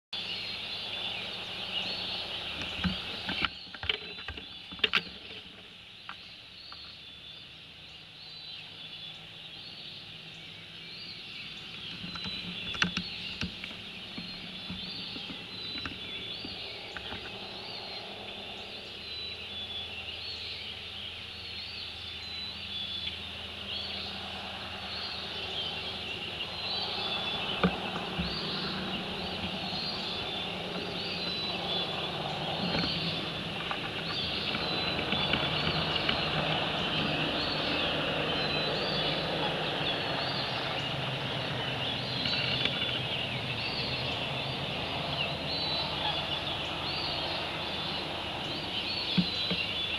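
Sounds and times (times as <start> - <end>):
bird chirping: 0.2 - 49.9.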